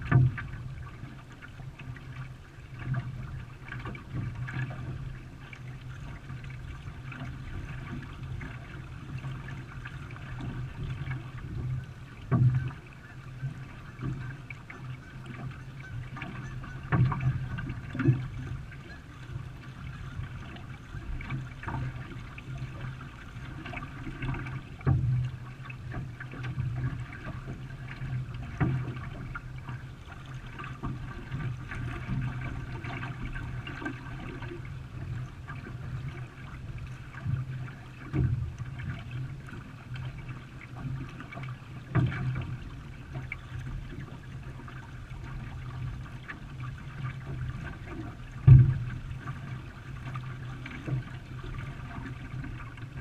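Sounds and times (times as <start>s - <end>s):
paddle splashing water: 0.0s - 53.0s.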